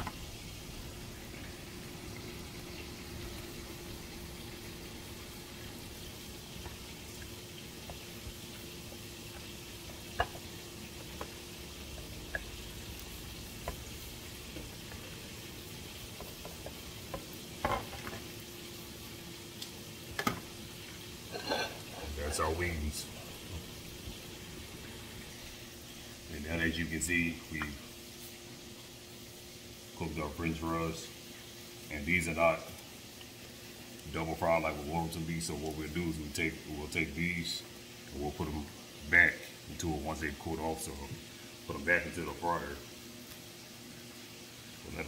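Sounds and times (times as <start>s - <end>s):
faint steady hum: 0.0s - 45.0s
oil sizzling: 0.0s - 45.0s.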